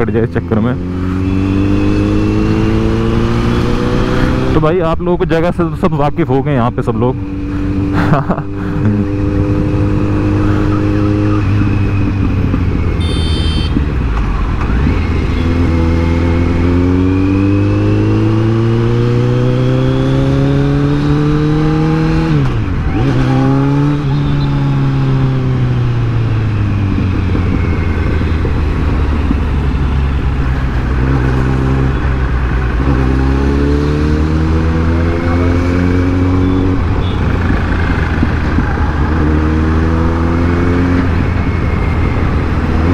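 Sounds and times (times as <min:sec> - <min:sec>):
motorcycle engine revving: 0:00.0 - 0:04.8, 0:07.1 - 0:42.9.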